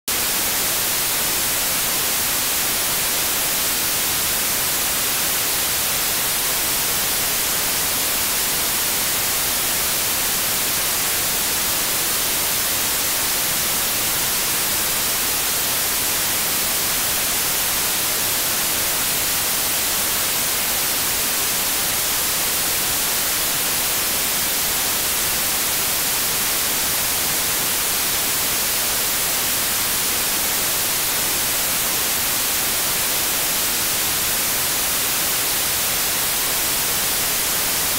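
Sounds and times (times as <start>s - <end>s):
tv static hiss: 0.1s - 37.9s.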